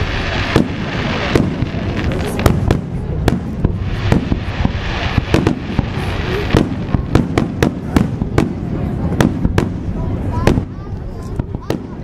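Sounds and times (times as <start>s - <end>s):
fireworks bursting with sharp bangs: 0.0s - 12.0s
low rumble and hiss: 0.0s - 12.0s.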